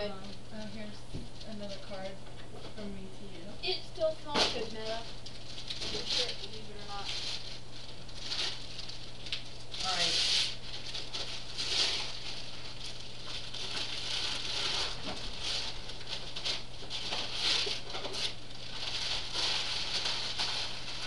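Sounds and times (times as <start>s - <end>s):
steady low hum: 0.0s - 21.0s
wrapping paper rustling: 4.0s - 21.0s.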